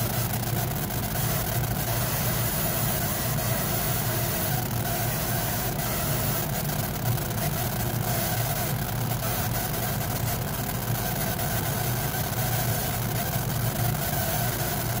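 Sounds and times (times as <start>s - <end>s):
laser engraver humming: 0.0s - 15.0s.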